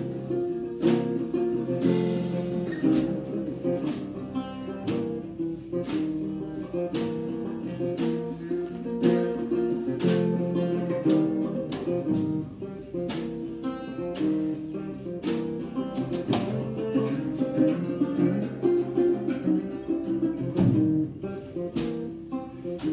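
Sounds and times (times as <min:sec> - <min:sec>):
resonator guitar strumming: 0:00.0 - 0:22.9.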